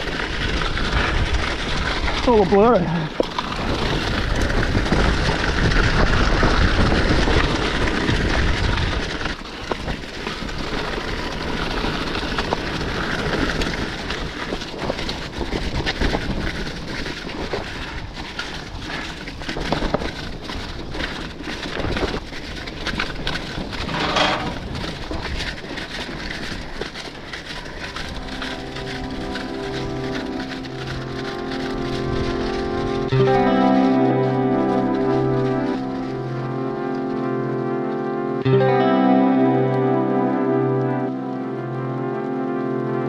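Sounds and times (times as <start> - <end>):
bike rattling over rocks: 0.0 - 37.0
bike tyre noise: 0.0 - 38.4
wind on microphone: 2.9 - 38.2.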